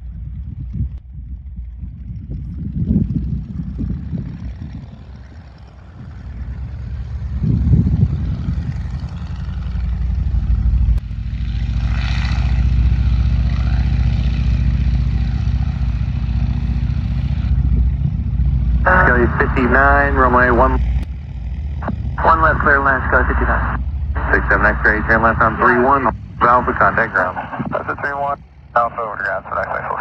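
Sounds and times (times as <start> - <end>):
biplane engine and propeller: 0.0 - 30.0.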